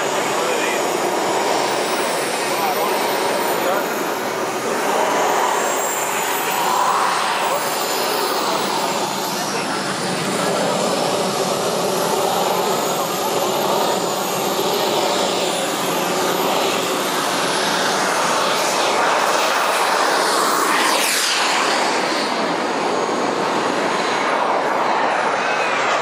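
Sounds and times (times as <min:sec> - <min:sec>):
model jet turbine whine: 0:00.0 - 0:26.0.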